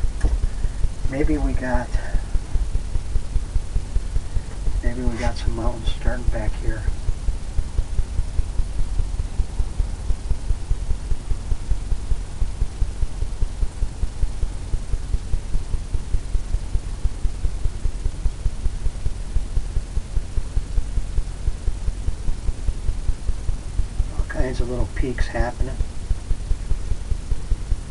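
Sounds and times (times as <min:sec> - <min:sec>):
low throbbing hum: 0:00.0 - 0:27.9.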